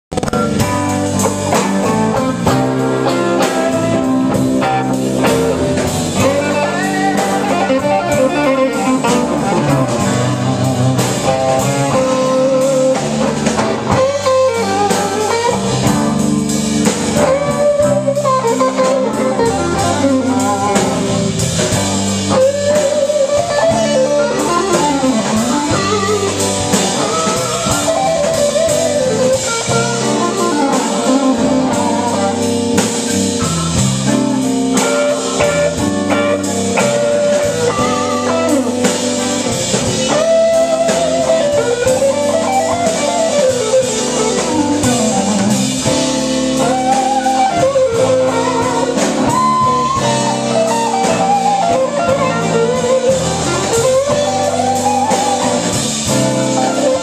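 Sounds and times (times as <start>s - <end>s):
bass: 0.0s - 57.0s
drum kit: 0.1s - 57.0s
electric guitar lead lines: 0.1s - 57.0s.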